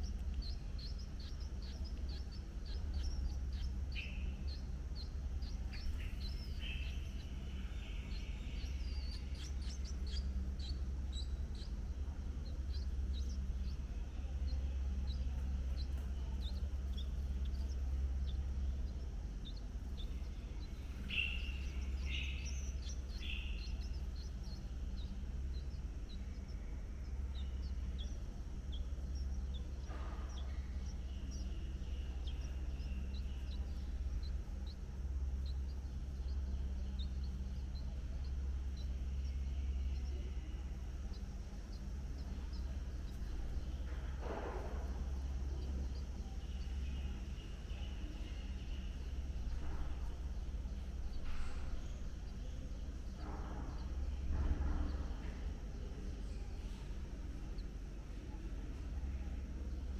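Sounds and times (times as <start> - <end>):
birds chirping: 0.0 - 59.9
low outdoor hum: 0.0 - 59.9
lower bird calls: 0.0 - 59.9.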